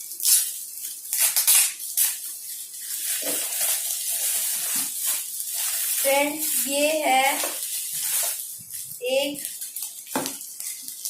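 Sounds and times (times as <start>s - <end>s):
gift wrapping rustling: 0.0s - 11.0s.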